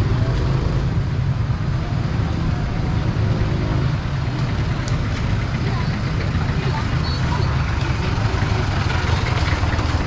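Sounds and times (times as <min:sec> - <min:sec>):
street traffic: 0:00.0 - 0:10.0
vehicle engine rumbling: 0:00.0 - 0:10.0.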